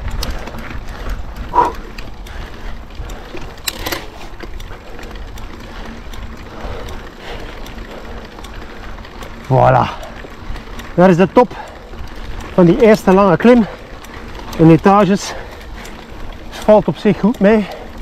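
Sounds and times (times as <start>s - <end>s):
bike rattling over bumps: 0.0s - 18.0s
bike tyres rumbling on dirt: 0.0s - 18.0s.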